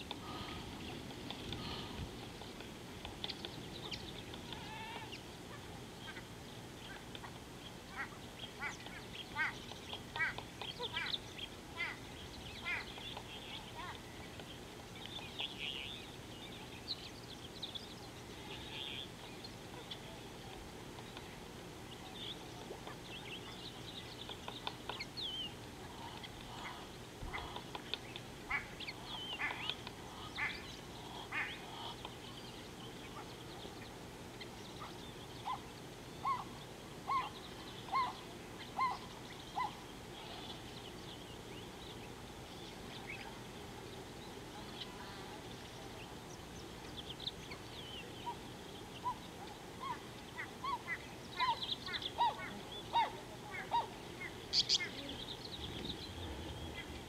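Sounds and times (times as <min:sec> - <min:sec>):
bird chirps and trills: 0:00.2 - 0:20.2, 0:21.0 - 0:57.0.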